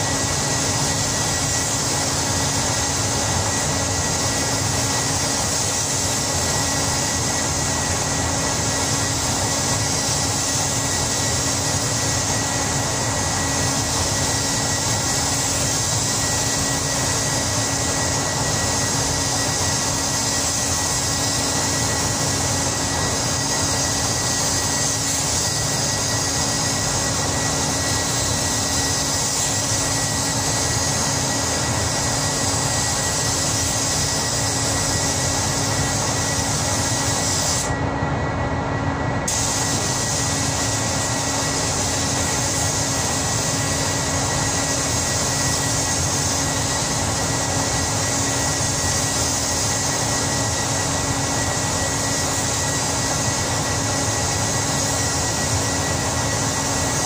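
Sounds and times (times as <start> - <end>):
spray gun spraying paint: 0.0 - 37.7, 39.2 - 57.0
spray booth air rushing: 0.0 - 37.9, 39.2 - 57.0
steady hum: 0.0 - 57.0.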